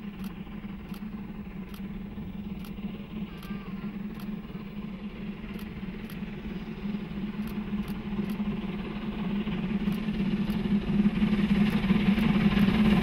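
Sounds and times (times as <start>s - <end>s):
steam locomotive approaching: 0.0s - 13.0s.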